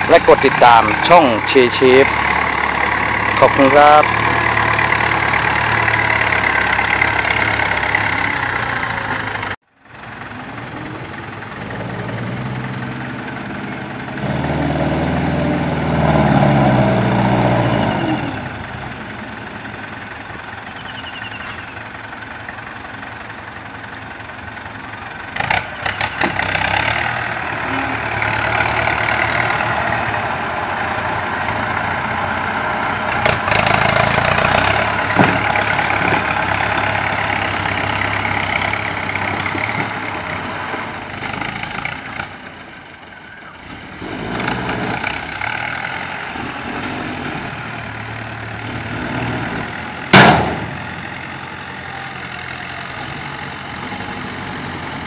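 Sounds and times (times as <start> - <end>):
dump truck engine: 0.0 - 55.0
tractor engine running: 0.0 - 55.0.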